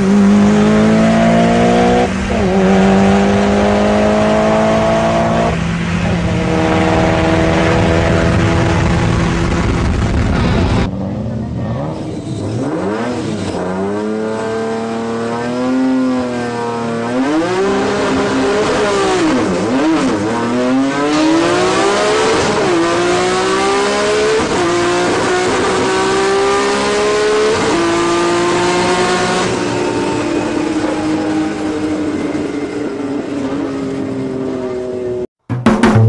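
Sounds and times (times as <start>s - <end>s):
car engine revving through gears: 0.0s - 35.3s.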